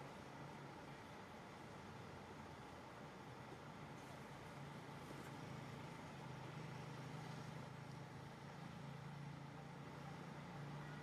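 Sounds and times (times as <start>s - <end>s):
faint low engine hum: 0.0s - 11.0s.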